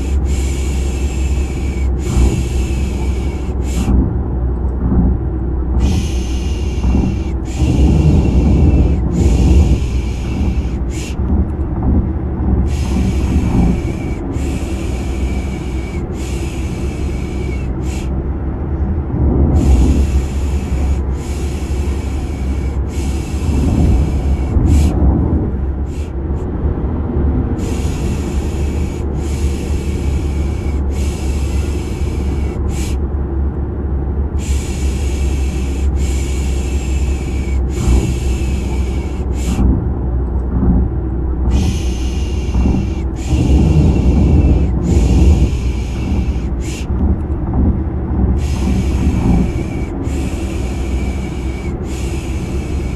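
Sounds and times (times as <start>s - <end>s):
car engine and road rumble: 0.0s - 52.9s.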